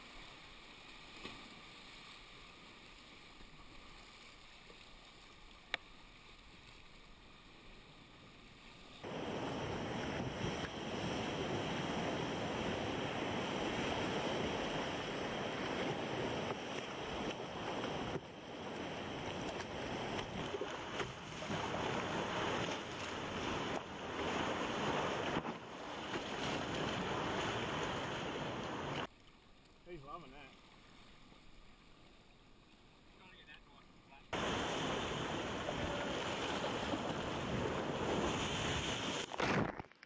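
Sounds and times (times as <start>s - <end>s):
breaking surf and churning water: 0.0s - 29.1s, 33.1s - 39.8s.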